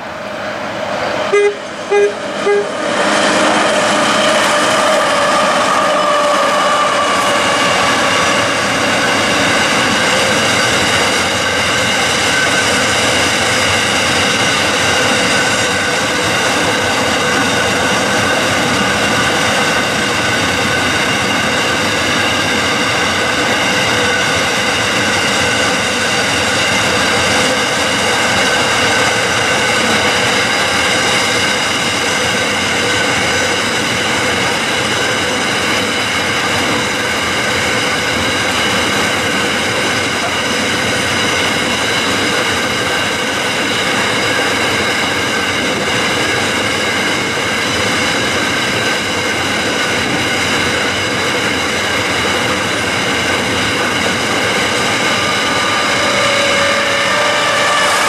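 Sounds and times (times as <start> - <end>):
freight train wheel rumble: 0.0 - 58.0.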